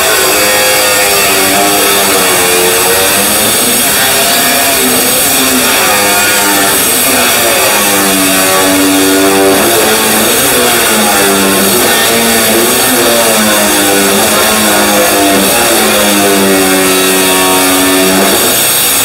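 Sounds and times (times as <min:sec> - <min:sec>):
guitar background music: 0:00.0 - 0:18.8
angle grinder cutting sheet steel: 0:00.0 - 0:19.0.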